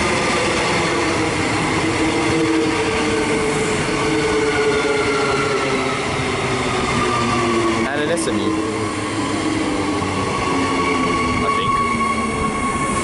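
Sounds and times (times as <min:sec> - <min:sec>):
electric train pulling in: 0:00.0 - 0:13.0.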